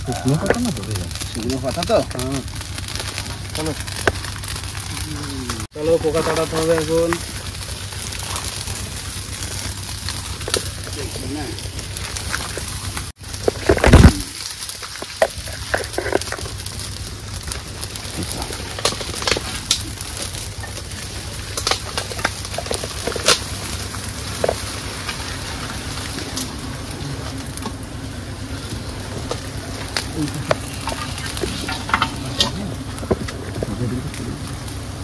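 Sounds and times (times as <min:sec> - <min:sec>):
smoke torch crackling and hissing: 0:00.0 - 0:35.0.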